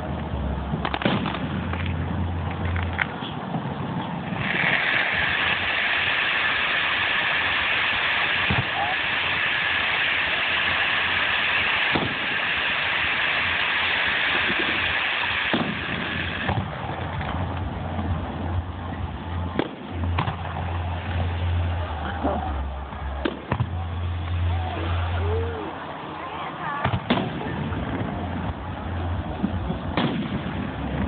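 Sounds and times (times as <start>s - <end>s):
fireworks bangs: 0.0s - 25.2s, 26.6s - 31.0s
low rumble: 0.0s - 26.0s, 27.0s - 31.0s
fireworks crackling hiss: 0.0s - 31.0s.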